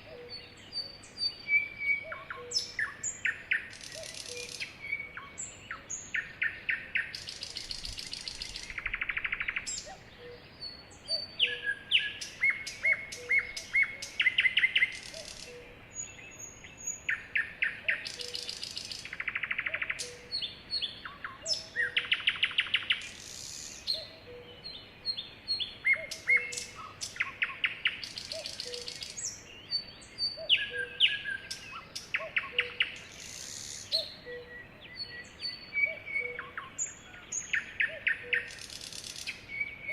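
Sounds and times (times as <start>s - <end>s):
sparrows singing: 0.0s - 39.9s.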